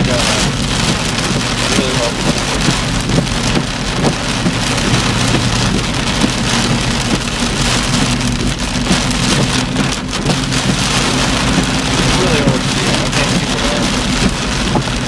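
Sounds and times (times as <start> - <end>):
heavy rain drumming on a car: 0.0 - 15.0
low vehicle hum: 0.0 - 15.0.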